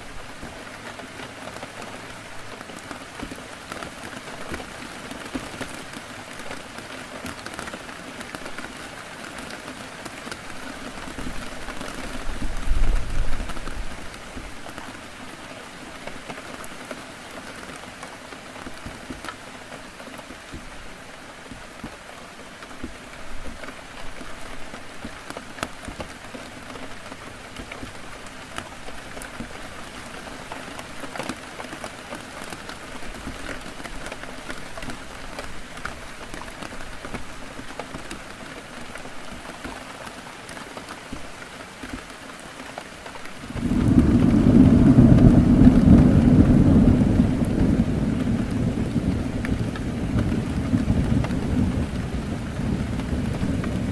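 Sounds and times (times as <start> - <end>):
heavy rain on a window: 0.0 - 53.9.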